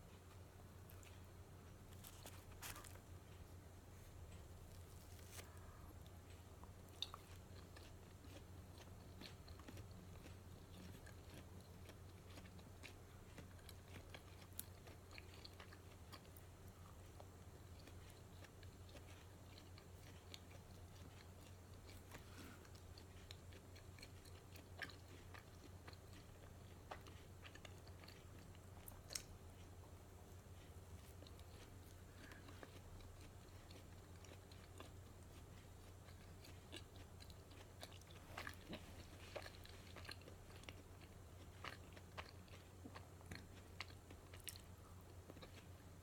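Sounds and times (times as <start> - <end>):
chewing and biting close to mouth: 0.0 - 46.0
low steady hum: 0.0 - 46.0.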